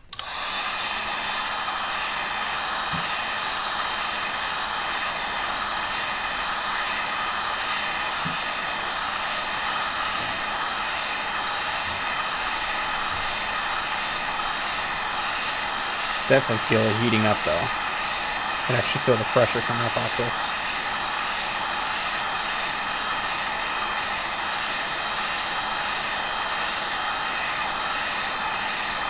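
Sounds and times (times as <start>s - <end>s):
heat gun blowing: 0.0s - 29.0s.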